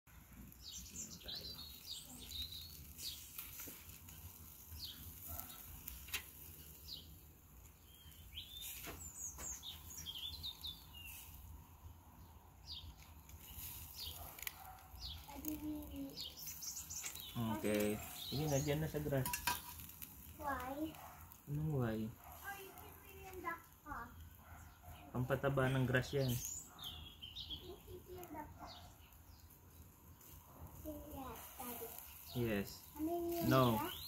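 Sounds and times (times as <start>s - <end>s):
small birds chirping and trilling: 0.1s - 34.0s.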